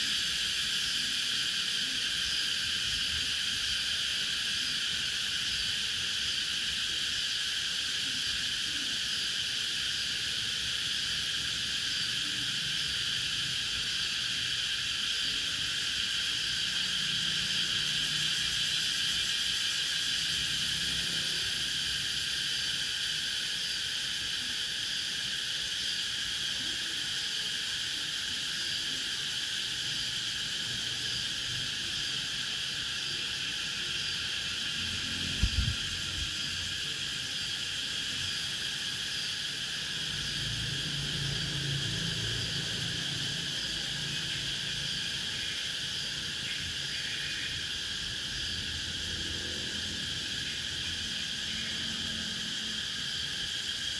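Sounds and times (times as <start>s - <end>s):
cicadas buzzing: 0.0s - 53.9s.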